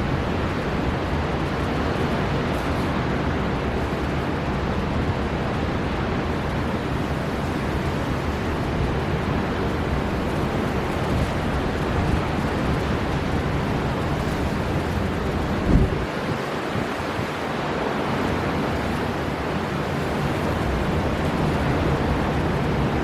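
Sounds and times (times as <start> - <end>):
storm wind blowing: 0.0 - 23.0
surf washing: 0.0 - 23.0.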